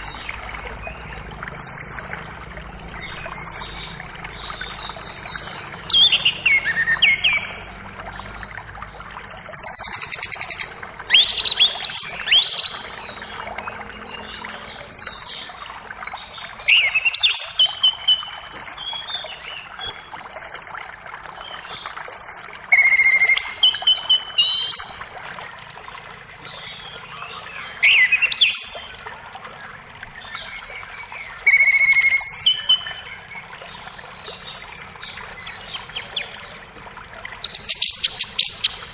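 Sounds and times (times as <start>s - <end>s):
forest creek rushing: 0.0s - 38.9s
songbirds chirping: 0.0s - 38.9s.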